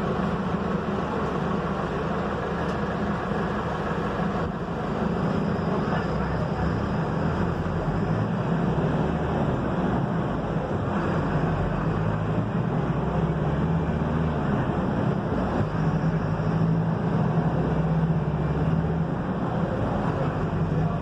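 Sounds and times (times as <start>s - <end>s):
bus diesel engine running: 0.0s - 21.0s
road and tyre noise: 0.0s - 21.0s.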